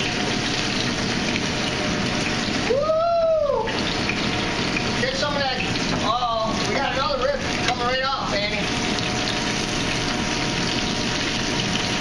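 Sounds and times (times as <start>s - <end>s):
commercial kitchen rushing noise: 0.0s - 12.0s.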